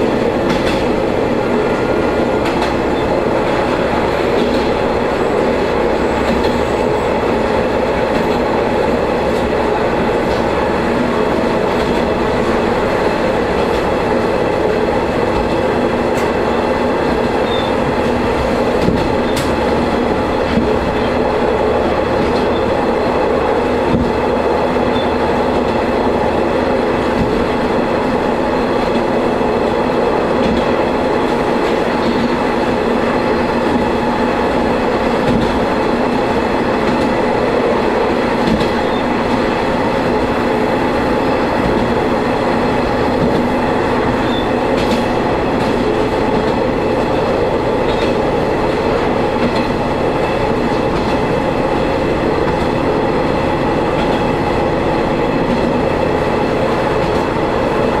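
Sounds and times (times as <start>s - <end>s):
railcar engine drone: 0.0s - 58.0s
train wheels on rails: 0.0s - 58.0s.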